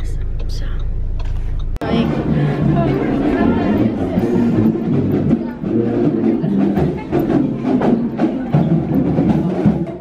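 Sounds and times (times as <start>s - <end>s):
marching band playing: 1.8s - 10.0s.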